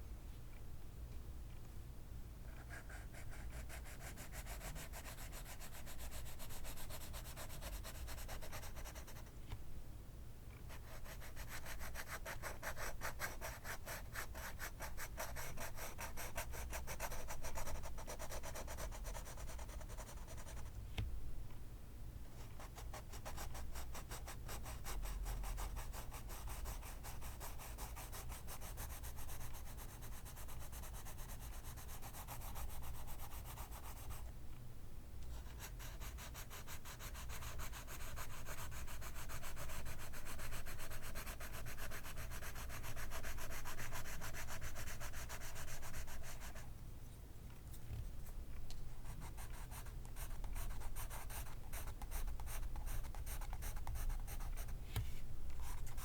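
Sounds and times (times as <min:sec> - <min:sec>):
pencil scratching on paper: 0:02.5 - 0:09.3, 0:10.8 - 0:20.7, 0:22.6 - 0:34.2, 0:35.5 - 0:46.6, 0:49.2 - 0:54.7.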